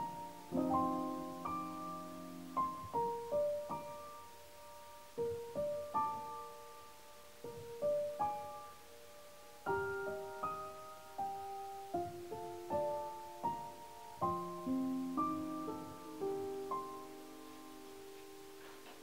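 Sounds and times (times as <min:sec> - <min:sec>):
gentle solo piano: 0:00.0 - 0:19.0.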